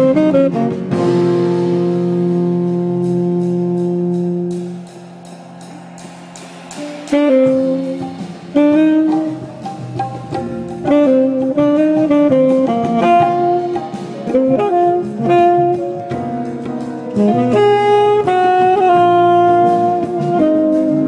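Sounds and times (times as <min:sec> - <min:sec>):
saxophone jazz melody: 0:00.0 - 0:05.3, 0:06.7 - 0:21.0.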